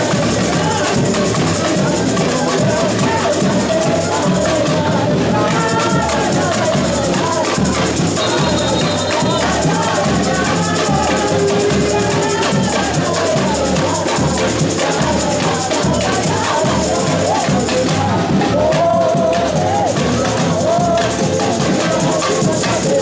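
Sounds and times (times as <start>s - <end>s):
bass drums beating: 0.0s - 23.0s
metal shakers and hand percussion: 0.0s - 23.0s
person singing: 0.0s - 23.0s.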